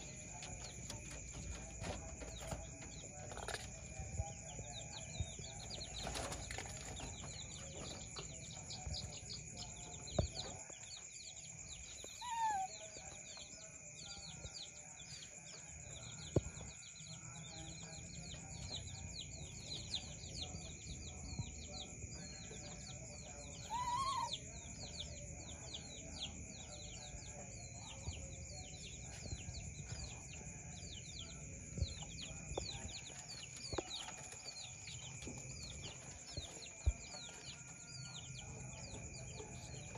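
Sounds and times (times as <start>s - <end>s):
high insect-like hum: 0.0s - 39.9s
small birds chirping: 0.0s - 39.9s.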